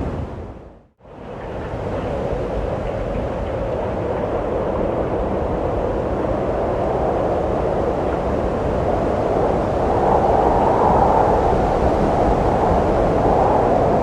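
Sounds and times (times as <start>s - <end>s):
wind blowing and gusting: 0.0s - 14.0s.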